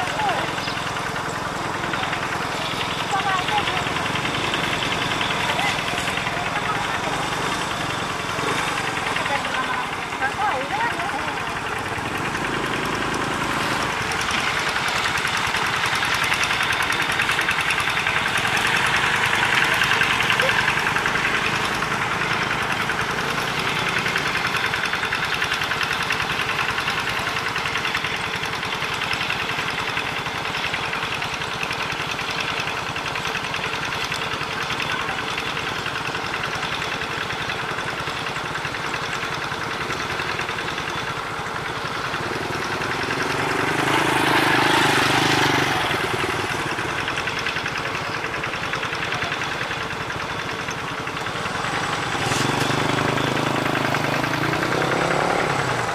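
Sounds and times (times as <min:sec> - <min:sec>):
locomotive diesel engine knocking: 0:00.0 - 0:55.9.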